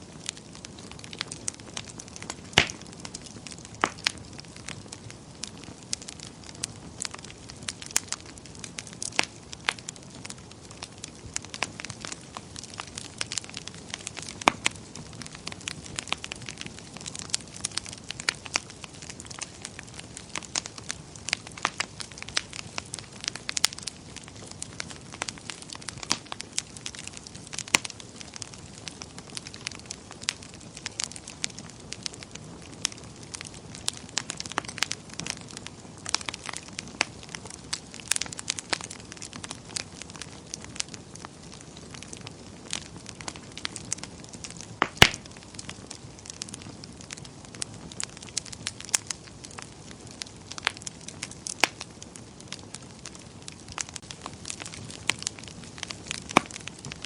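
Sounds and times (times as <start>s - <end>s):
fire low hiss: 0.0s - 57.0s
wood fire crackling and popping: 0.0s - 57.0s.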